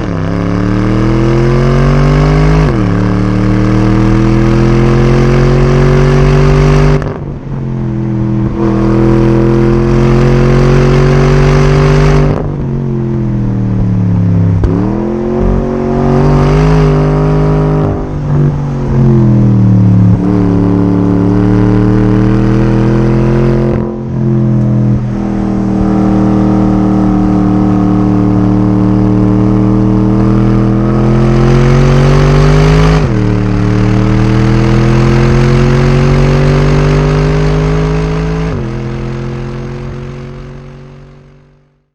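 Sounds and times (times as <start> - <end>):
car engine accelerating with gear changes: 0.0 - 41.9.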